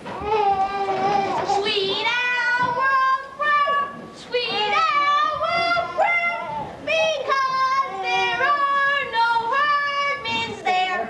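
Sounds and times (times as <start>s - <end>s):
young person singing: 0.6s - 11.0s.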